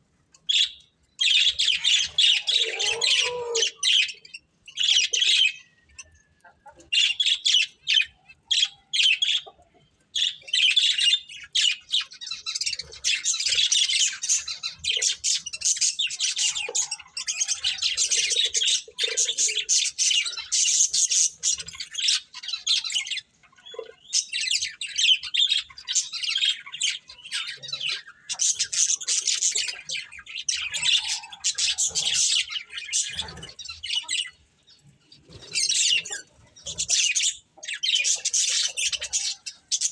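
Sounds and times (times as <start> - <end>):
budgerigars chirping and chattering: 0.4 - 39.9.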